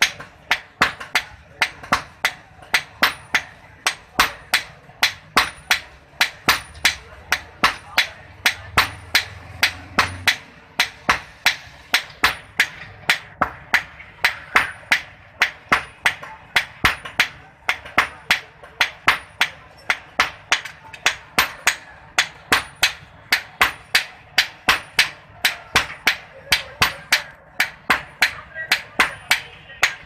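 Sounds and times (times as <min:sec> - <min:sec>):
hammer striking iron on anvil: 0:00.0 - 0:30.0.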